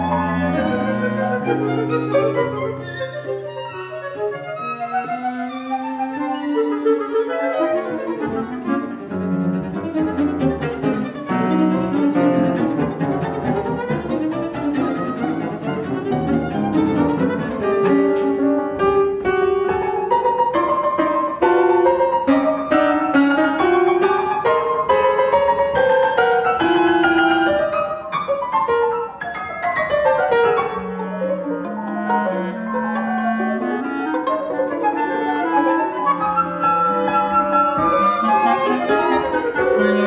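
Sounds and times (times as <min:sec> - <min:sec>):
pizzicato violin: 0:00.0 - 0:28.1, 0:30.2 - 0:40.0
cello: 0:00.0 - 0:40.0
clarinet: 0:00.0 - 0:40.0
piano chords: 0:00.0 - 0:40.0
violin: 0:00.0 - 0:40.0.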